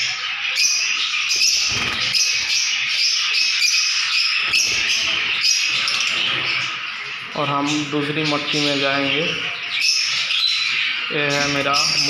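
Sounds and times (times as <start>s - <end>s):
lovebirds chirping and squawking: 0.0s - 12.0s.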